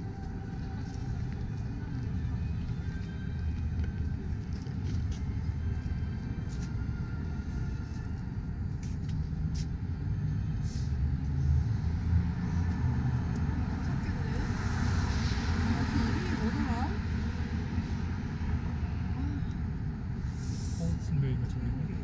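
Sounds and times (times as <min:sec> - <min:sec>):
street rumble: 0:00.0 - 0:22.0.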